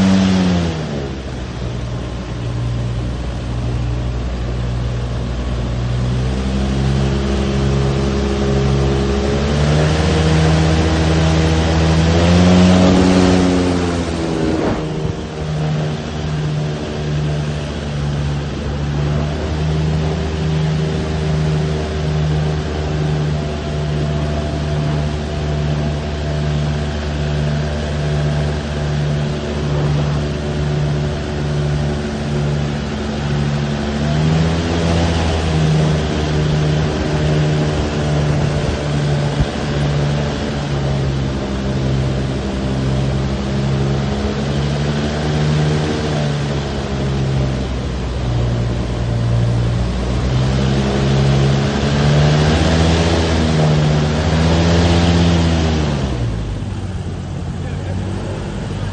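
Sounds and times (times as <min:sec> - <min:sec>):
airboat engine throbbing: 0:00.0 - 0:58.9.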